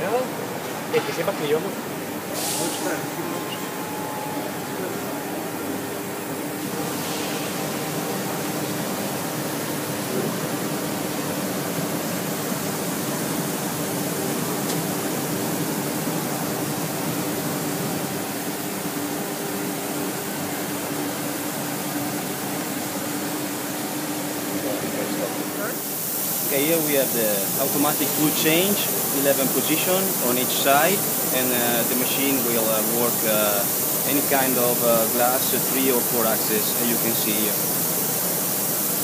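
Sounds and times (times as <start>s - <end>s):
machine hum: 0.0s - 39.0s
coolant water spraying: 1.1s - 4.0s, 4.8s - 39.0s.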